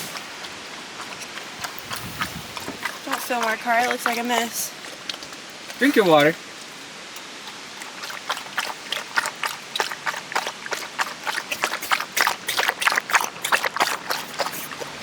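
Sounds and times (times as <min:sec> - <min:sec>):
dog lapping water: 0:00.0 - 0:15.0.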